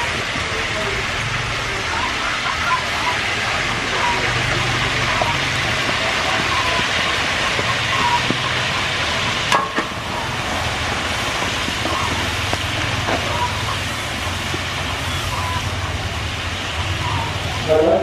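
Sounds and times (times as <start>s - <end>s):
oil sizzling in a wok: 0.0s - 18.0s.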